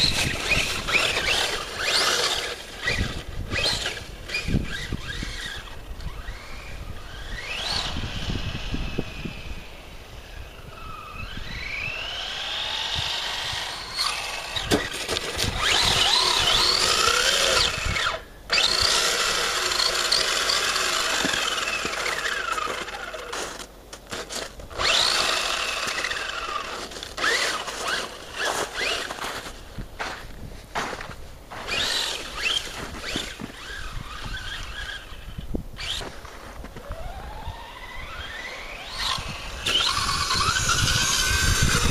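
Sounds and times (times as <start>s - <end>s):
toy truck motor whining: 0.0s - 29.5s, 31.5s - 41.9s.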